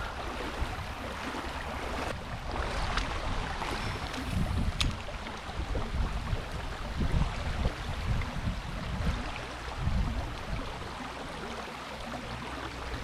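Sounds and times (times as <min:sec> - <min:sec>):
creek water rushing: 0:00.0 - 0:13.0
wind buffeting microphone: 0:00.0 - 0:13.0.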